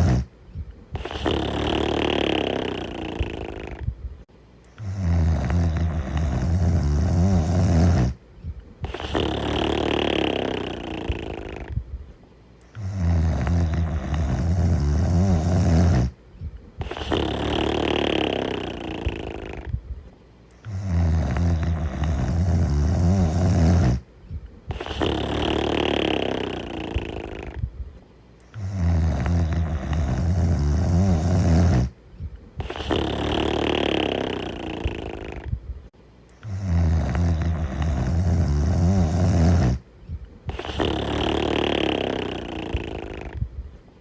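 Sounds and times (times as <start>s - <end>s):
cartoon dog snoring: 0.0s - 3.9s, 4.8s - 8.2s, 8.8s - 11.8s, 12.7s - 16.2s, 16.8s - 19.8s, 20.5s - 24.1s, 24.7s - 27.7s, 28.4s - 32.0s, 32.6s - 35.6s, 36.4s - 43.5s.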